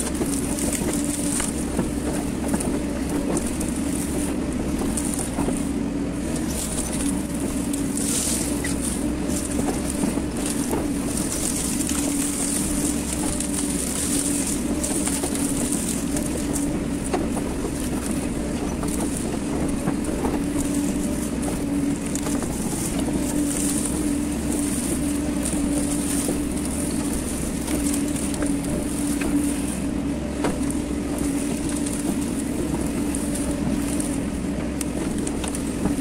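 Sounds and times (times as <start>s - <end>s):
excavator diesel engine hum: 0.0s - 36.0s.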